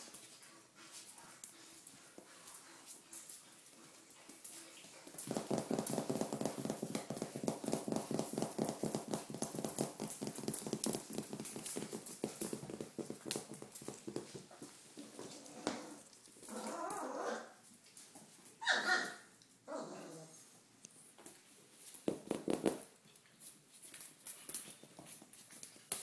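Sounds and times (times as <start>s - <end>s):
puppy paws pattering on floor: 0.0s - 19.6s, 20.8s - 26.0s.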